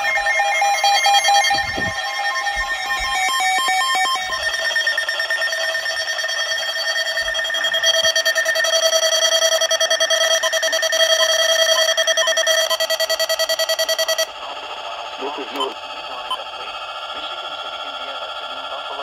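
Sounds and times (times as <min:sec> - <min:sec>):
pulsing electronic alarm tone: 0:00.0 - 0:19.0.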